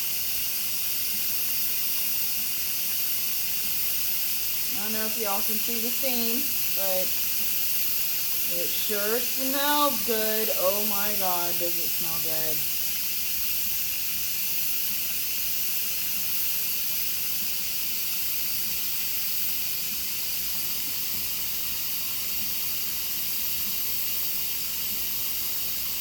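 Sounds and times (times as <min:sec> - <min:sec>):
pressure valve hissing steam: 0:00.0 - 0:26.0.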